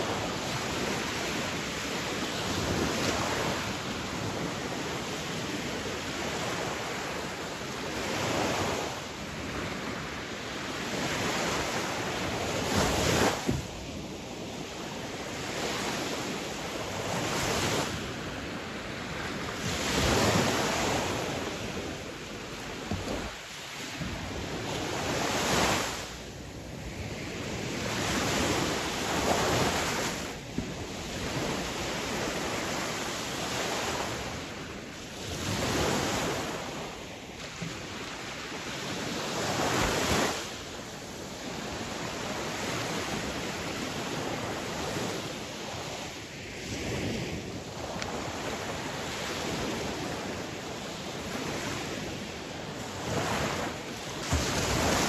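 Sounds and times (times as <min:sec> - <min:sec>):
sea waves crashing on shore: 0:00.0 - 0:55.0.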